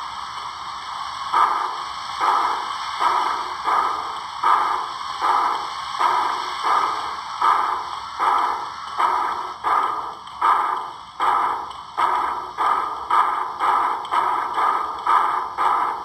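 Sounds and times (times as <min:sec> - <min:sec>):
model steam locomotive chuffs: 0:00.0 - 0:16.0
steady steam hiss: 0:00.0 - 0:16.0.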